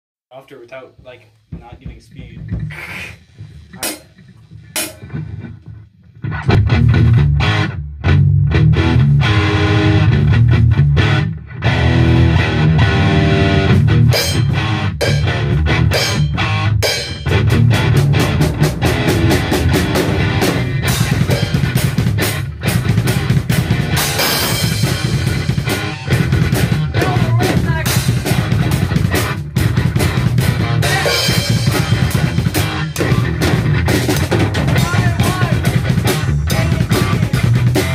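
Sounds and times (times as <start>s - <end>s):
loud rock music: 3.4s - 5.5s, 6.2s - 37.9s.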